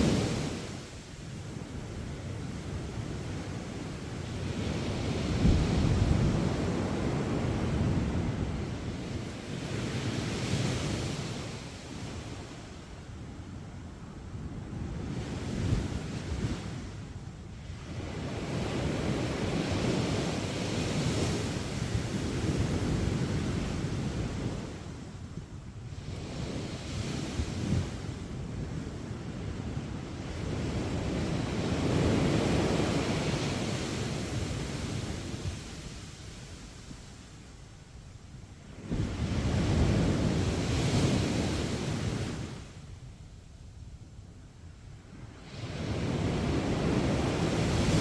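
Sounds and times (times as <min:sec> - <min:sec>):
waves breaking on beach: 0:00.0 - 0:13.8, 0:17.7 - 0:37.6, 0:38.6 - 0:42.9, 0:45.1 - 0:48.0.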